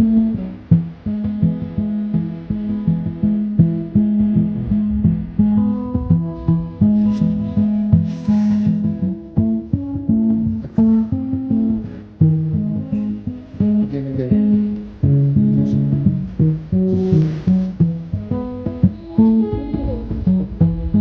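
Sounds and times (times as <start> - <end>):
plucked guitar melody: 0.0 - 21.0.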